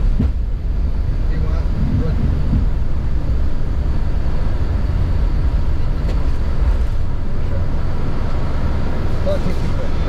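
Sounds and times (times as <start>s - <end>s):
jet engine rumble in cabin: 0.0s - 10.0s.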